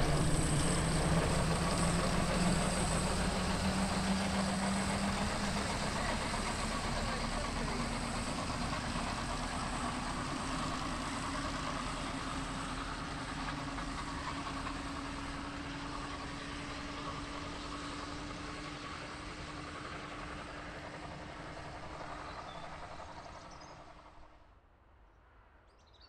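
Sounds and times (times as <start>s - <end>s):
locomotive hum: 0.0s - 24.3s.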